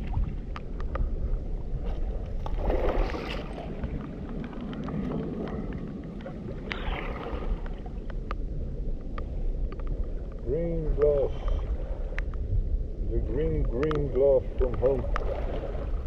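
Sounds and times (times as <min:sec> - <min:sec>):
rain ticking on microphone: 0:00.0 - 0:02.5, 0:03.5 - 0:16.0
wind rumbling on microphone: 0:00.0 - 0:16.0.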